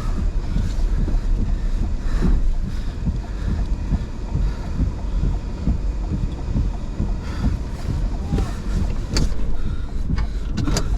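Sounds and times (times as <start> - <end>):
gusty wind buffeting microphone: 0.0 - 10.9.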